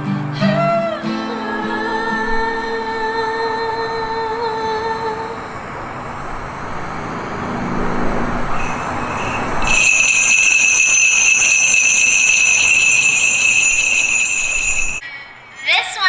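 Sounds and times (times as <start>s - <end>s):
steady high tones: 1.5s - 15.8s
noisy wash of sound: 1.8s - 15.0s.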